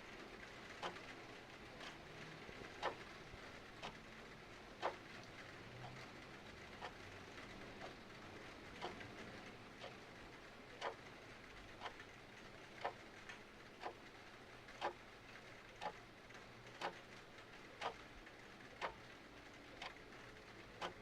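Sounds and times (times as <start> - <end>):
faint rain hiss: 0.0 - 21.0
mechanical clock ticking: 0.6 - 4.2, 4.8 - 8.1, 8.8 - 9.2, 9.8 - 21.0.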